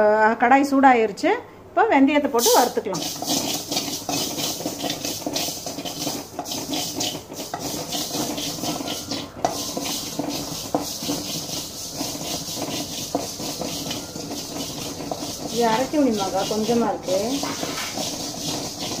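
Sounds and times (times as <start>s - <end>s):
spatula scraping seeds in pan: 2.4s - 19.0s.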